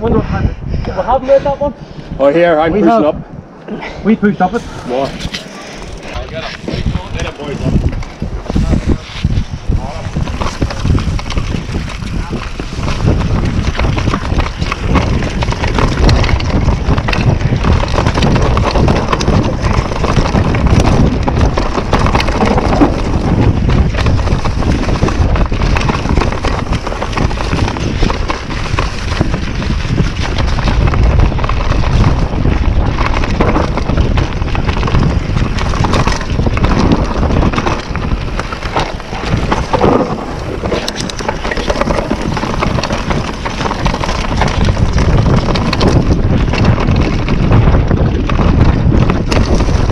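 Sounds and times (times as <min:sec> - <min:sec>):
wind buffeting microphone: 0:00.0 - 0:49.9
bike tyre roar: 0:04.4 - 0:49.9
bike rattling over bumps: 0:04.5 - 0:49.9.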